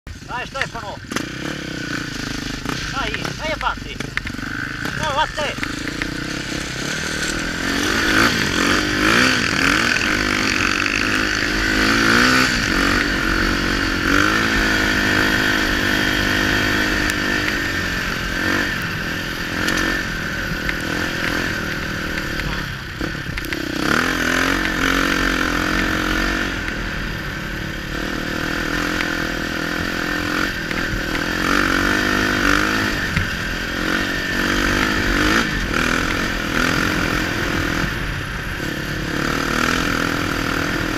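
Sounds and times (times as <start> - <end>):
dirt bike engine revving: 0.1 - 40.9.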